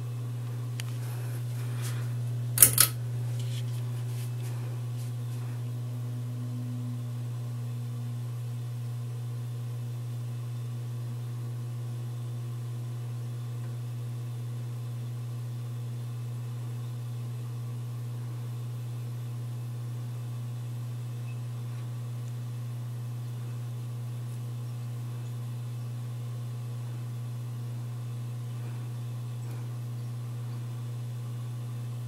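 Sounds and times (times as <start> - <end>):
ceiling fan motor humming: 0.0 - 32.0.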